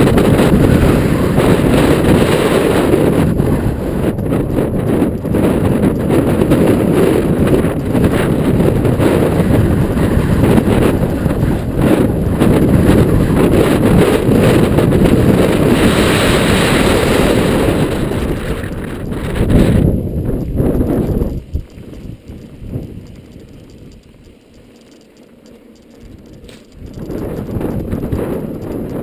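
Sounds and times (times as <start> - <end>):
bike clattering over rough trail: 0.0 - 29.0
wind buffeting microphone: 0.0 - 29.0.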